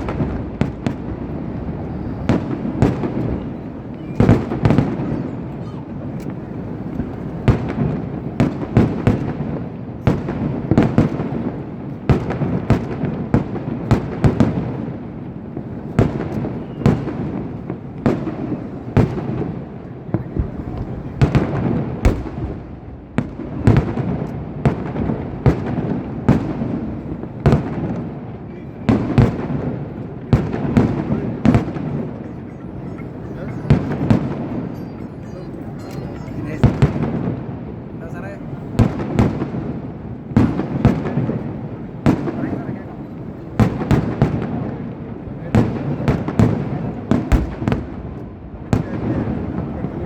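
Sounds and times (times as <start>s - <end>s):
fireworks cracking bangs: 0.0s - 50.0s
rumble of firework bursts: 0.0s - 50.0s.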